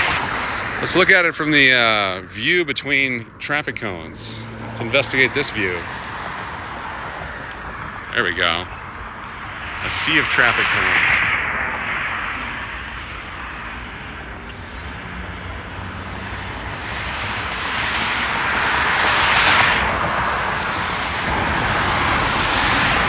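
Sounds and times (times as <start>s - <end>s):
jet airliner engine roar: 0.0s - 23.0s.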